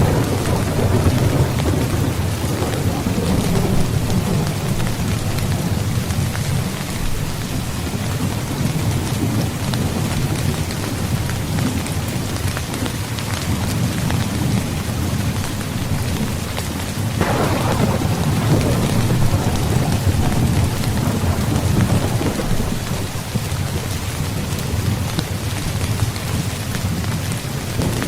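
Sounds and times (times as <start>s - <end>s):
rolling rumble of thunder: 0.0s - 12.9s, 13.5s - 28.0s
steady rain: 0.0s - 28.0s.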